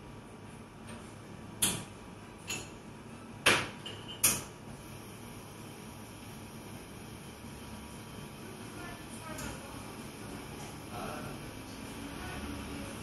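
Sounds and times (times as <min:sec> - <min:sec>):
cafe room noise: 0:00.0 - 0:13.0.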